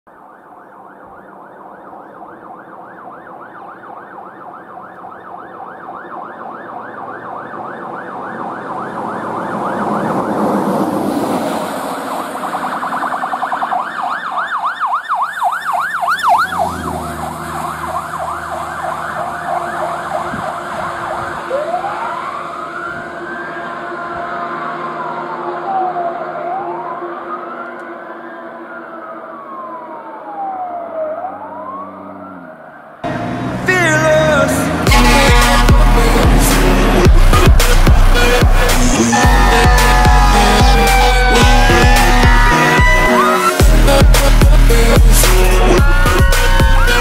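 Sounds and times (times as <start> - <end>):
fire engine siren: 0.0 - 47.0
truck engine passing: 1.5 - 47.0.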